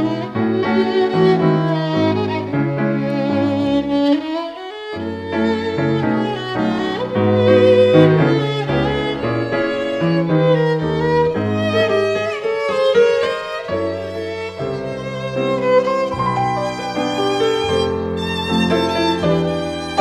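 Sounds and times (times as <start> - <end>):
lower string accompaniment: 0.0 - 20.0
violin melody: 0.0 - 20.0.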